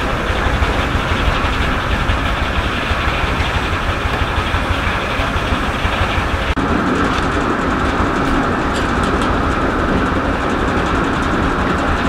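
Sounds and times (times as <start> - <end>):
sawmill and engine running: 0.0 - 12.0.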